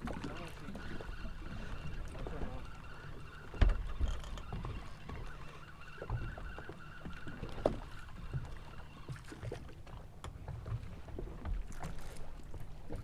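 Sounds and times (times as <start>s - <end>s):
boat engine humming: 0.0s - 13.0s
knocks and clicks on boat: 0.0s - 13.0s.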